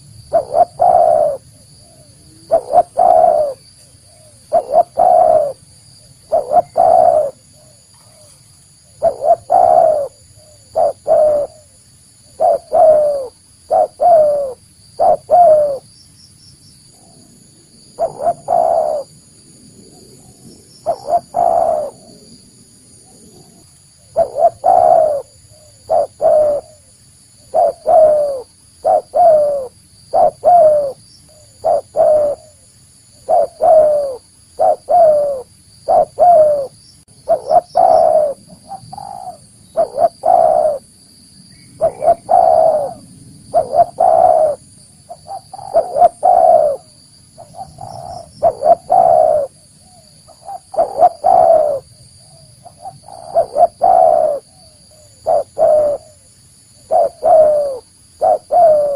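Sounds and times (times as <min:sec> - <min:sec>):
dove cooing: 0:00.0 - 0:15.9, 0:17.0 - 0:19.2, 0:19.8 - 0:32.6, 0:33.2 - 0:41.0, 0:41.8 - 0:58.9.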